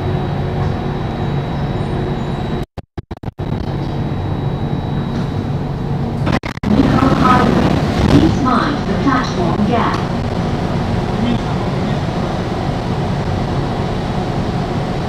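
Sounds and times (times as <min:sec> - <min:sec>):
train car rumble and hum: 0:00.0 - 0:15.0.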